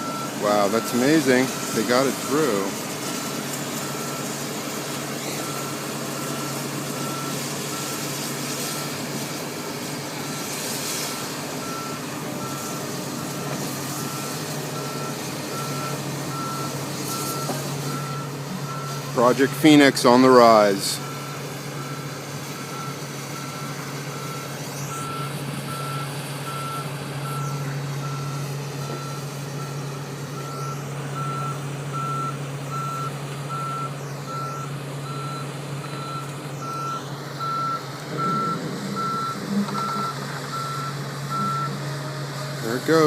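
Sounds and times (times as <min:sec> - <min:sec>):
reversing alarm beeping: 0:00.0 - 0:04.5, 0:05.1 - 0:09.0, 0:10.2 - 0:42.0
machine engine running: 0:00.0 - 0:43.0.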